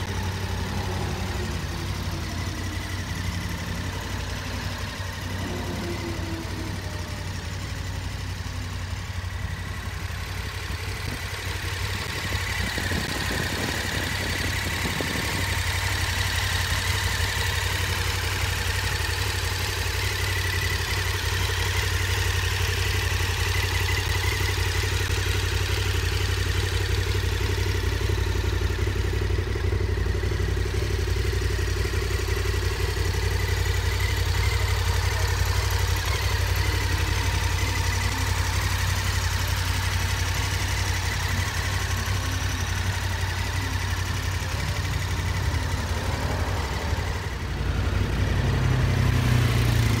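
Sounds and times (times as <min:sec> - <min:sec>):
motorcycle engine idling: 0:00.0 - 0:50.0.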